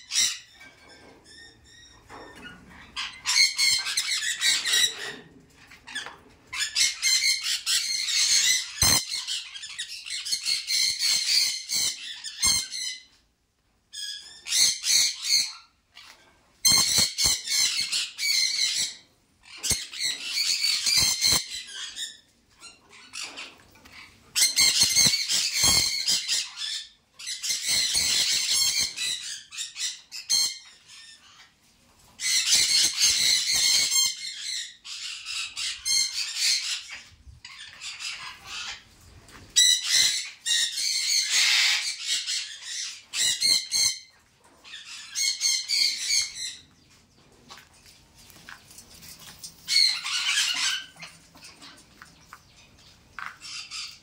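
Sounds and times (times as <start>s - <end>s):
parrots screeching: 0.0s - 5.2s, 5.8s - 13.1s, 14.0s - 31.5s, 32.2s - 38.8s, 39.6s - 46.6s, 49.6s - 51.8s, 53.4s - 54.0s.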